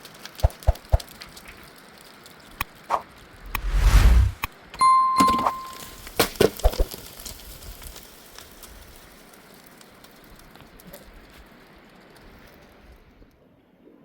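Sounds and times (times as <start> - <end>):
wood fire crackling: 0.0 - 4.5, 6.0 - 13.0.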